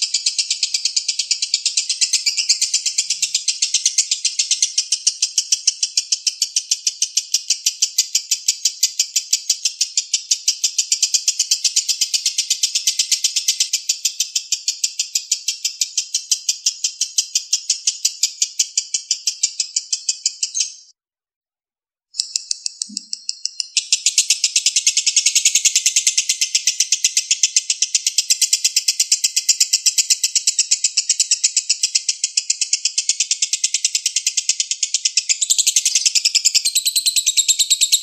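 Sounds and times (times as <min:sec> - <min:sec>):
lovebird chattering: 0:00.0 - 0:20.9, 0:22.2 - 0:38.0.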